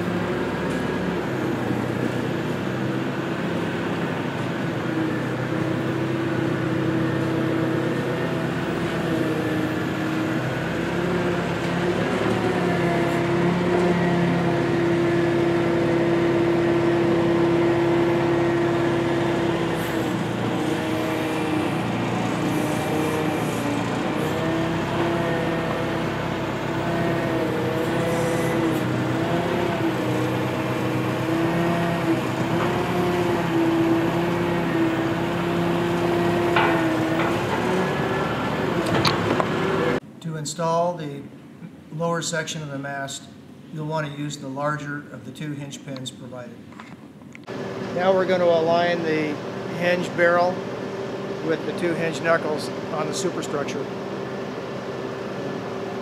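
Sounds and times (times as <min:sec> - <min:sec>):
forklift engine running: 0:00.0 - 0:40.1, 0:47.4 - 0:56.0.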